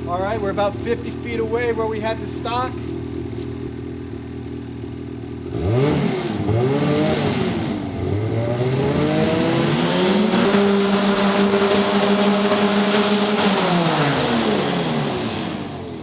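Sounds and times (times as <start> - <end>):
snowmobile engine idling and revving: 0.0 - 16.0.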